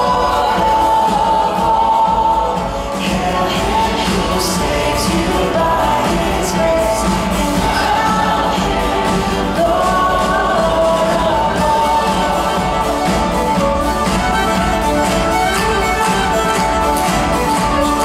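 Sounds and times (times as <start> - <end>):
violin melody: 0.0 - 18.0
worship band playing a hymn: 0.0 - 18.0.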